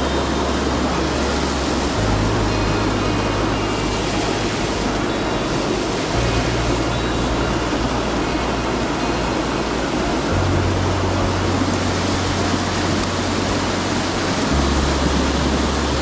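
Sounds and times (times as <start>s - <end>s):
low background music notes: 0.0s - 16.0s
stream water flowing: 0.0s - 16.0s.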